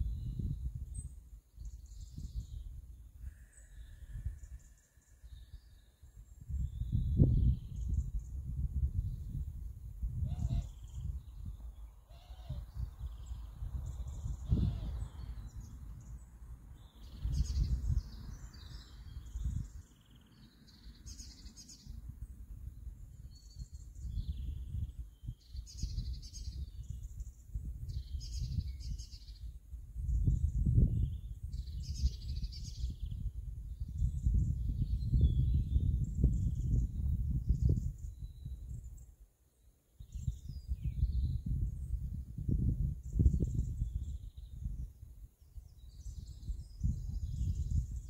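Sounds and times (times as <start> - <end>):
small birds chirping: 0.0 - 9.5, 10.3 - 48.0
wind rumbling on microphone: 0.0 - 39.2, 40.0 - 48.0.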